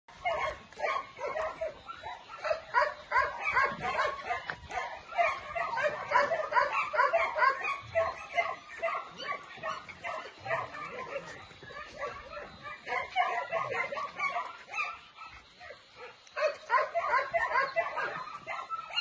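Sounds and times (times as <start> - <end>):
dogs barking and yipping: 0.1 - 19.0.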